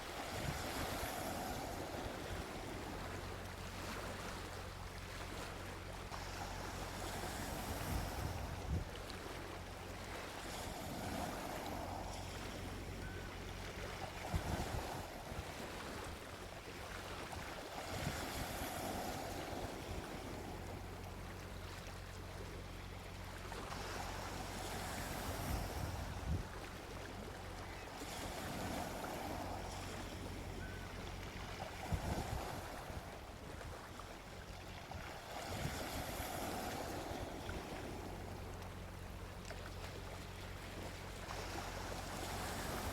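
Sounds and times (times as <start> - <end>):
sea waves washing onto beach: 0.0 - 42.9.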